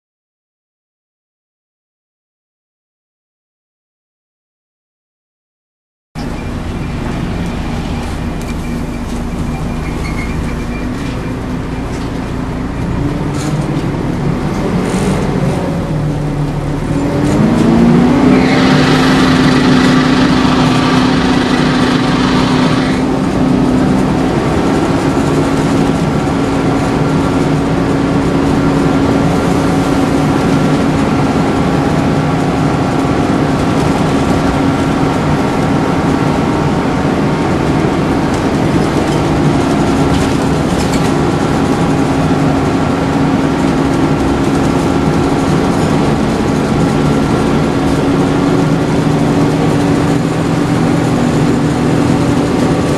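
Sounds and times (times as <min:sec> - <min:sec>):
bus engine: 0:06.2 - 0:52.9
engine cooling fan hum: 0:06.2 - 0:52.9.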